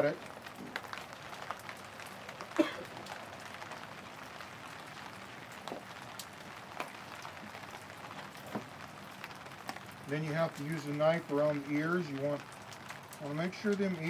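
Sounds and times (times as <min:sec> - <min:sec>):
light rain falling: 0:00.0 - 0:14.0
raindrop ticks: 0:00.0 - 0:14.0.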